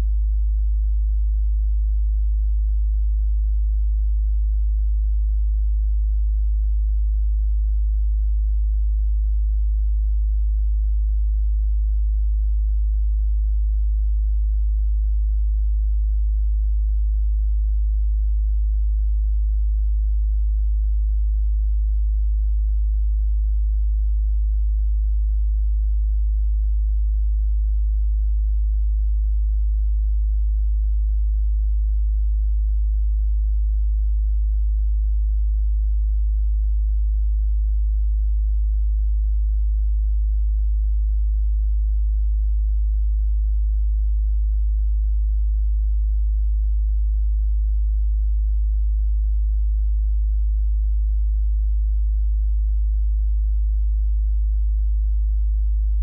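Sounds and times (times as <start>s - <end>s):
low sine tone: 0.0s - 56.0s.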